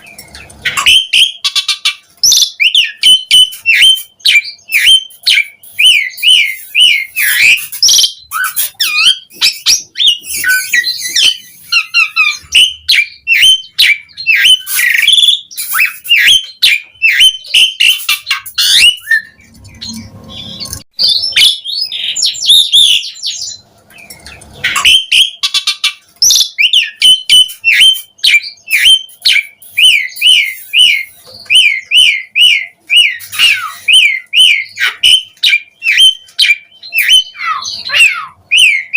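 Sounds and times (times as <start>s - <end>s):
starling singing and chattering: 0.0s - 38.9s.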